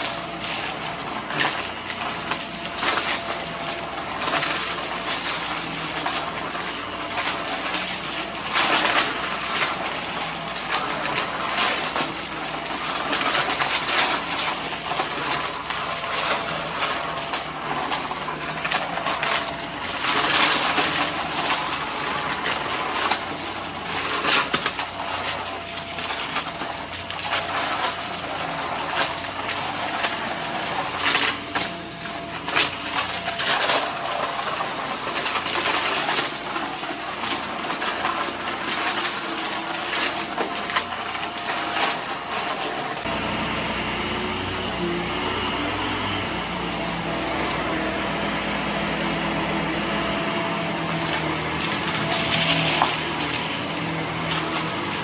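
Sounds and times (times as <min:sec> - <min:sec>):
debris rattling through nozzle: 0:00.0 - 0:43.1, 0:50.6 - 0:55.0
vacuum cleaner suction: 0:00.0 - 0:55.0.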